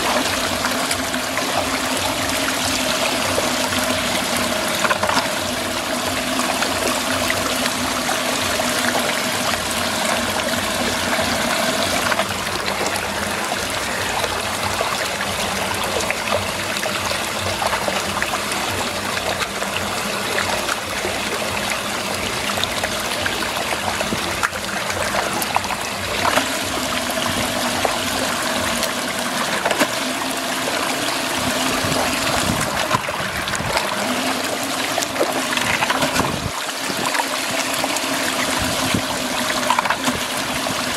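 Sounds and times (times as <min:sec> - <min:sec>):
water swirling and draining: 0:00.0 - 0:40.9.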